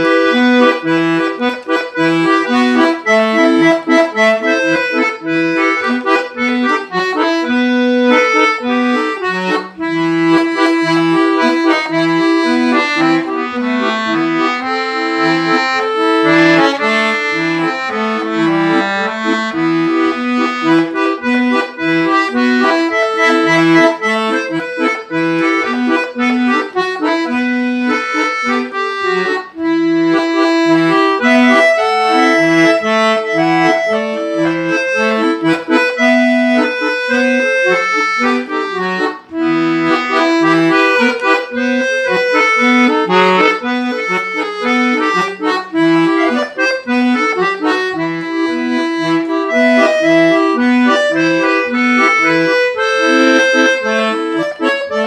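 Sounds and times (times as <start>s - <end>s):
piano accordion melody: 0.0s - 55.0s.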